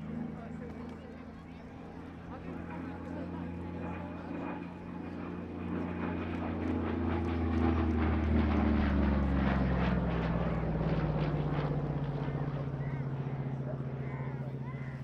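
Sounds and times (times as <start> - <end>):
propeller plane passing overhead: 0.0 - 15.0.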